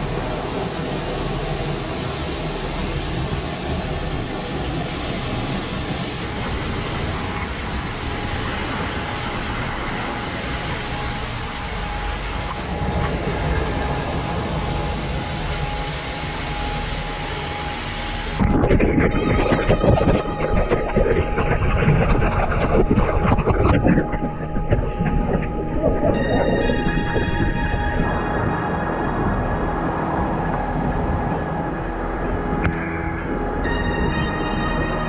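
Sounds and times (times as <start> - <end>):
music: 5.4 - 35.0.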